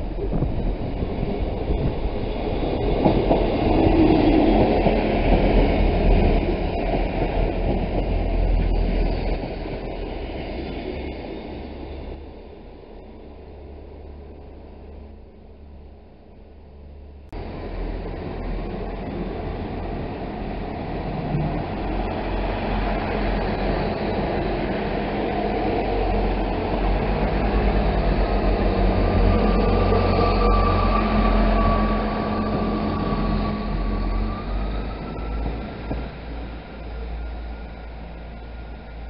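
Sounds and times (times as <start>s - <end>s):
train engine and wheels rumbling: 0.0s - 39.0s.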